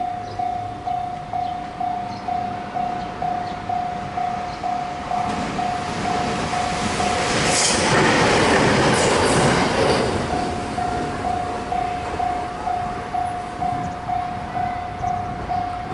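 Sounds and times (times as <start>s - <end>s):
level-crossing warning bell ringing: 0.0s - 15.9s
train rumble: 0.0s - 15.9s.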